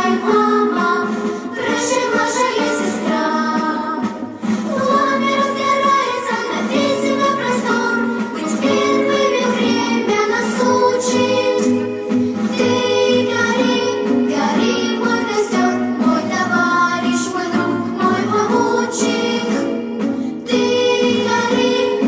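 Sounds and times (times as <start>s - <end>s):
instrumental accompaniment: 0.0s - 22.0s
person singing: 0.0s - 22.0s.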